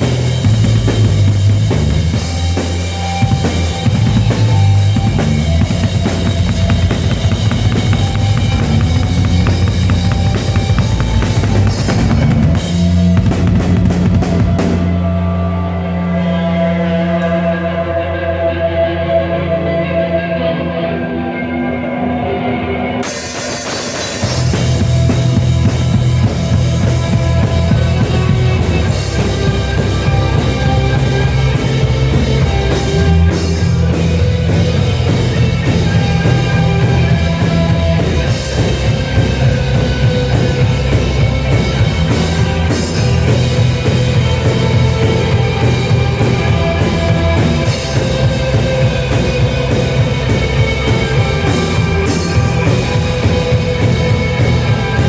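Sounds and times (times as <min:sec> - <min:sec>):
loud rock music: 0:00.0 - 0:55.0.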